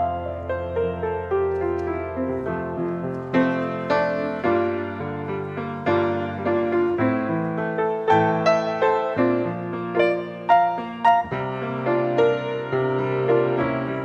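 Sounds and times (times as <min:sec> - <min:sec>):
solo grand piano: 0:00.0 - 0:14.0.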